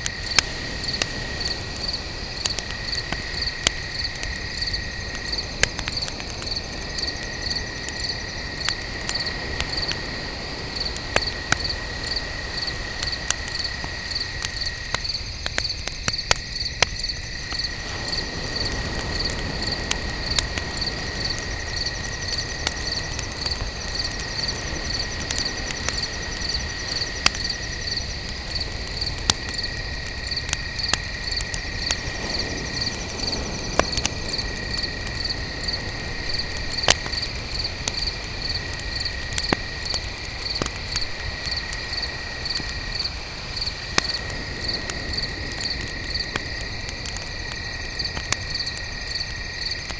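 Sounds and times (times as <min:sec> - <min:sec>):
campfire crackling and popping: 0:00.0 - 0:49.9
crickets chirping: 0:00.0 - 0:49.9.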